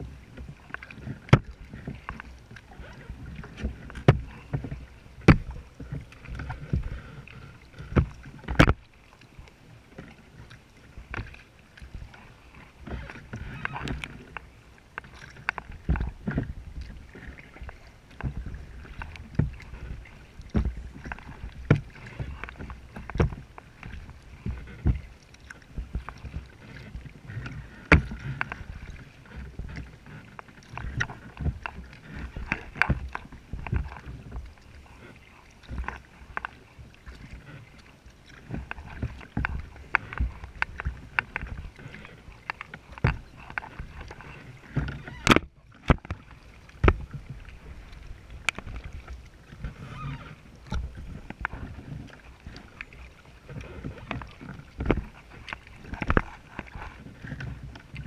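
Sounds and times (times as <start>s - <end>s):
paddle splashing water: 0.0s - 58.0s
water slapping against hull: 0.0s - 58.0s.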